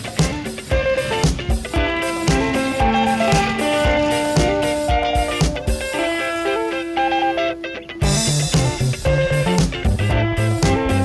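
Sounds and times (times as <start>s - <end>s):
drum beat: 0.0s - 6.3s, 8.0s - 11.0s
guitar music: 0.0s - 11.0s.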